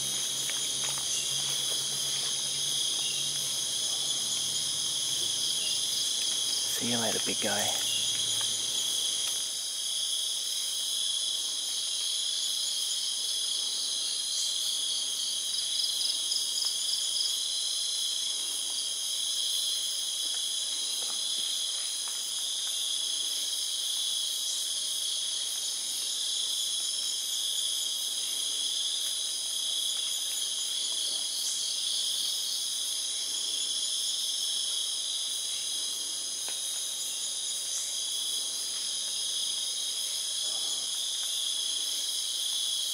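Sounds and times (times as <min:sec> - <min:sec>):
insects droning: 0:00.0 - 0:42.9
pulsing insect trill: 0:00.0 - 0:42.9.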